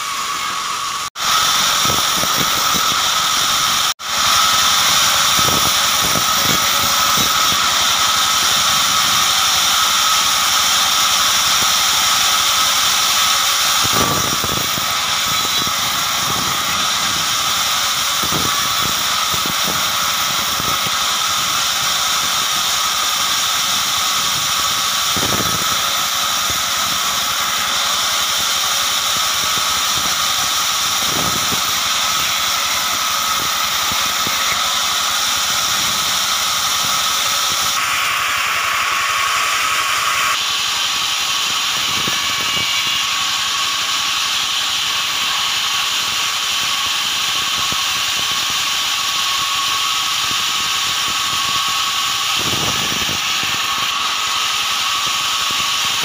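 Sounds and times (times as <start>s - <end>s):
band saw cutting log: 0.0s - 56.0s
high-pitched whine: 0.0s - 56.0s.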